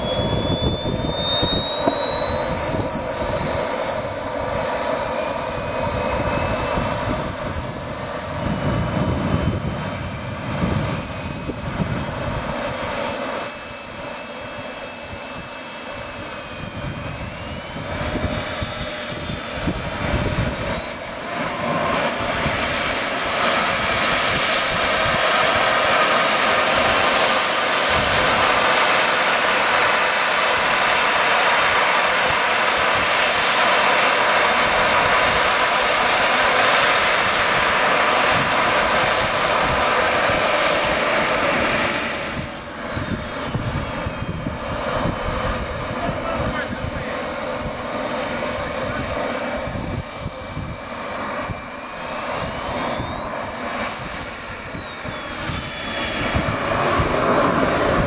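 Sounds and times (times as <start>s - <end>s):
wind buffeting microphone: 0.0s - 28.9s, 31.7s - 58.0s
jet turbine engine whining: 0.0s - 58.0s.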